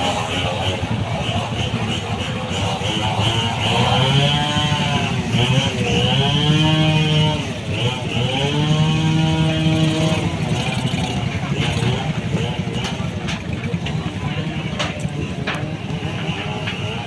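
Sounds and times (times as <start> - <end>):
vehicle engines passing: 0.0 - 17.0.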